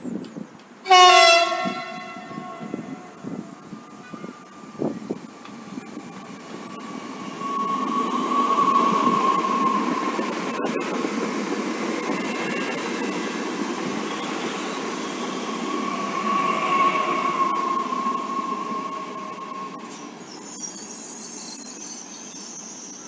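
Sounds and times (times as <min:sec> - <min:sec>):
train rolling noise: 0:00.1 - 0:23.0.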